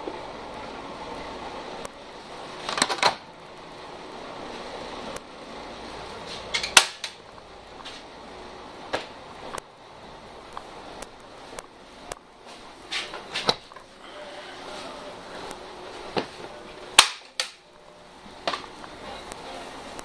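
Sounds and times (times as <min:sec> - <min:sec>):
bus cabin noise: 0:00.0 - 0:20.0.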